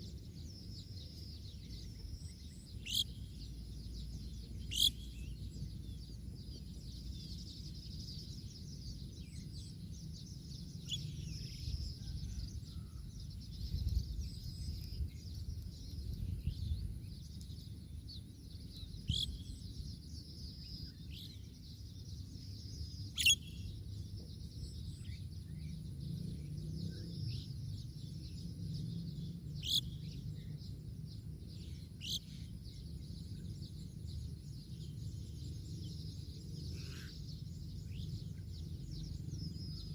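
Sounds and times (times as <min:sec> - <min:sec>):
birds chirping: 0:00.0 - 0:39.9
low background rumble: 0:00.0 - 0:39.9.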